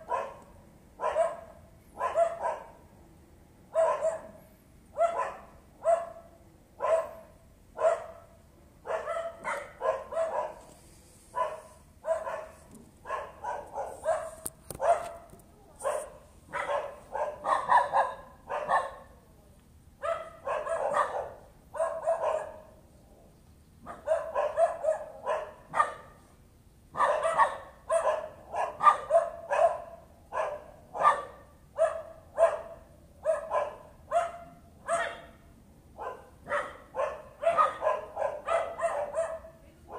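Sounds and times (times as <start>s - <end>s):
dog barking: 0.0s - 2.8s, 3.7s - 10.7s, 11.3s - 19.2s, 20.0s - 22.8s, 23.8s - 26.2s, 26.9s - 35.4s, 36.0s - 39.9s.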